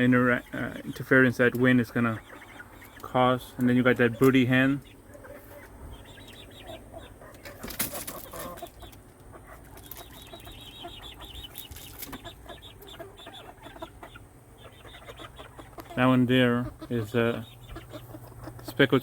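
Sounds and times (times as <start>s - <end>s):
chickens clucking softly: 0.0s - 19.0s.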